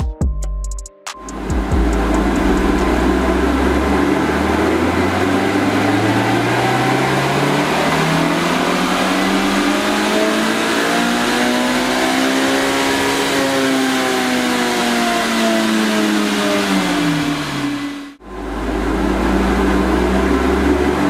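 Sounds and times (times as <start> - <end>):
engine revving under load: 1.2 - 21.0.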